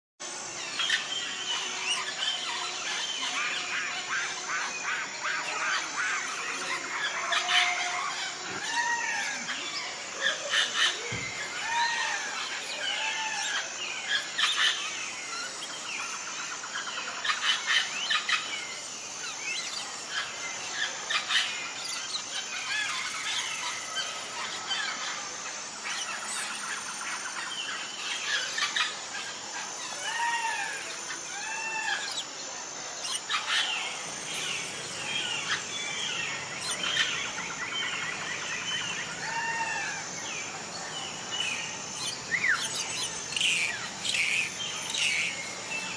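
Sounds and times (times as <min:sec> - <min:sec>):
birds chirping and trilling: 0:00.2 - 0:45.9.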